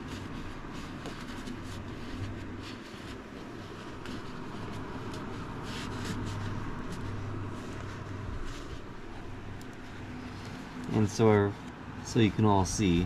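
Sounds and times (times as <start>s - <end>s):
towel rubbing on lead screw: 0.0s - 12.4s
steady low hum: 0.0s - 13.0s.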